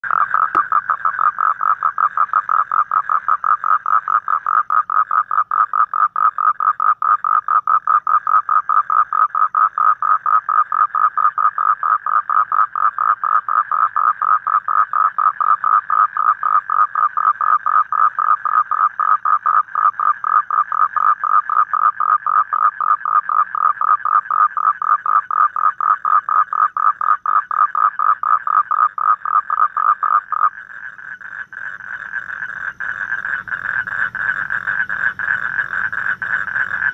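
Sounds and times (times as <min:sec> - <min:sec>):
toad trilling: 0:00.0 - 0:36.9.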